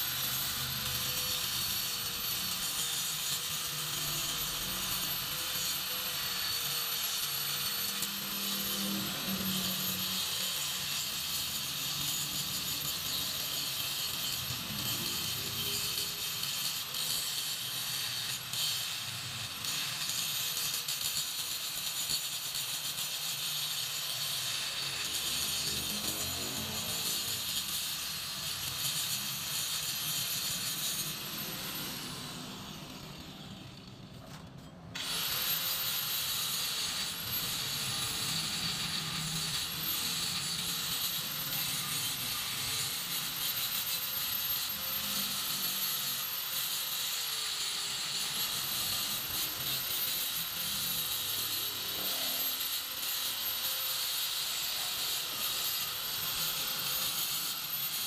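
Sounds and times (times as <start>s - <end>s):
power tool whine: 0.0s - 58.0s.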